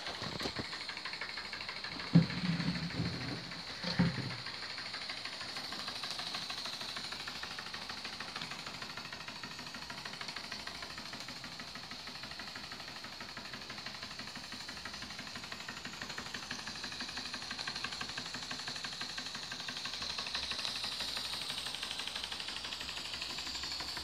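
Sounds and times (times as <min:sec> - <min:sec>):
steam engine chuffing and clicking: 0:00.0 - 0:24.0
steam hiss: 0:00.0 - 0:24.0.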